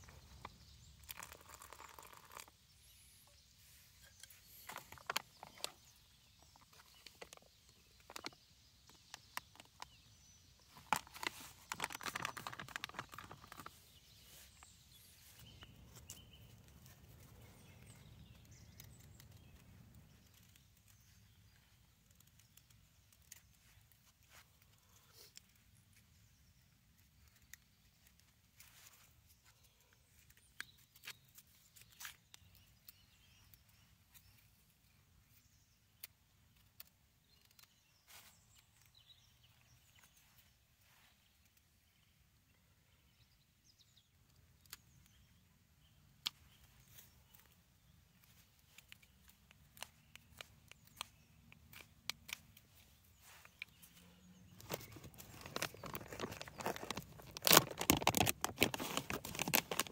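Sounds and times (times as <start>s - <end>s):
small ticks and clicks: 0.0s - 3.4s, 4.0s - 13.8s, 15.4s - 29.1s, 29.7s - 40.5s, 43.8s - 45.4s, 46.2s - 59.9s.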